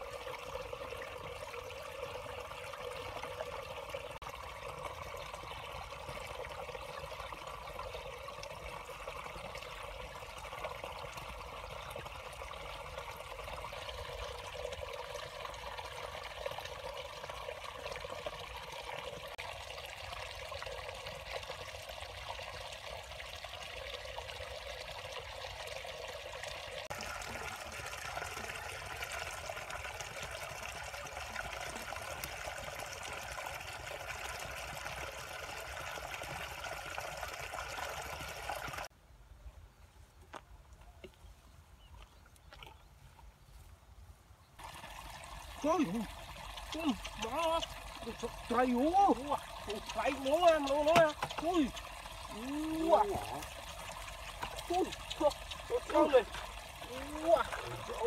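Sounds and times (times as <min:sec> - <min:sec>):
water trickling: 0:00.0 - 0:38.9, 0:44.6 - 0:58.0.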